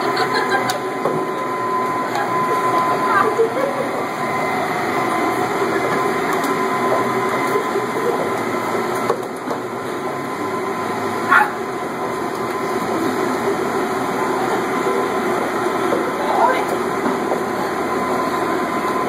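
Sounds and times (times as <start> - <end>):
blower air rush with whine: 0.0 - 19.0.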